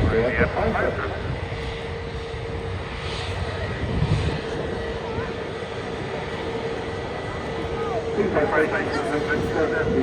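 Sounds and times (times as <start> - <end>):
aircraft engine rumble and whine: 0.0 - 10.0.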